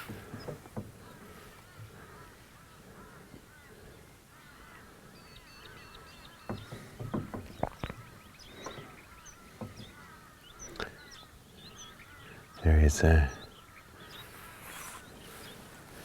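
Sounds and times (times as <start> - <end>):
birds calling and twittering: 0.0 - 16.0.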